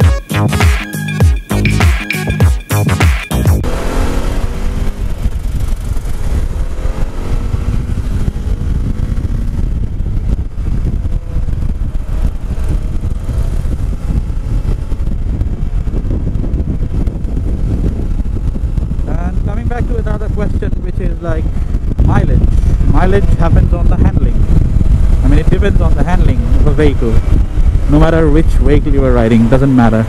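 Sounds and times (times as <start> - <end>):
motorcycle engine accelerating: 0.0 - 30.0
wind buffeting microphone: 3.6 - 30.0.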